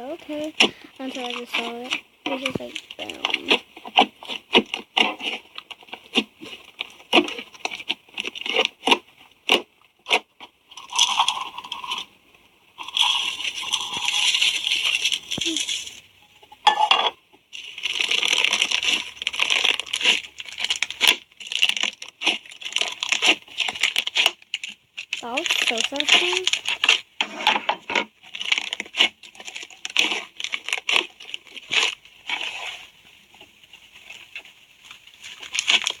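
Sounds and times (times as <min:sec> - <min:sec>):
slime crackling and crunching: 0:00.0 - 0:12.2, 0:12.8 - 0:16.0, 0:17.5 - 0:36.0.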